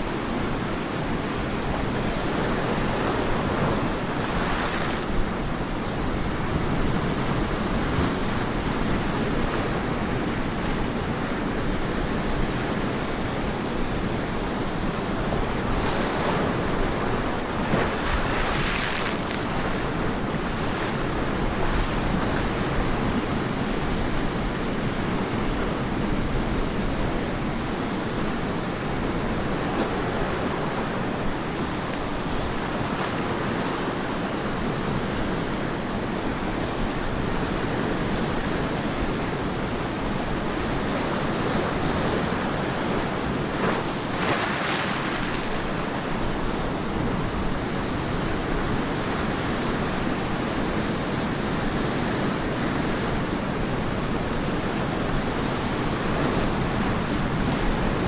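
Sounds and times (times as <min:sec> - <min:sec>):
ocean waves washing on beach: 0:00.0 - 0:58.0.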